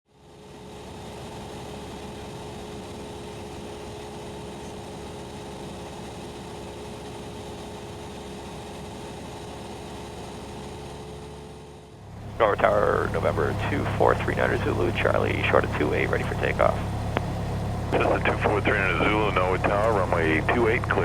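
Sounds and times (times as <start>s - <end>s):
aircraft engine idling: 0.1s - 21.0s.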